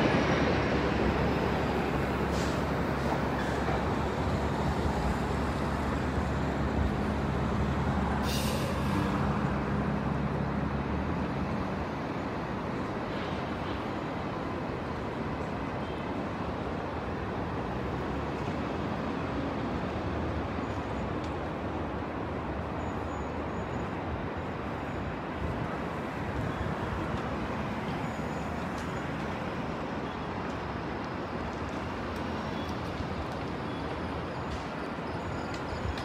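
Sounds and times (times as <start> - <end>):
city street traffic: 0.0 - 36.0.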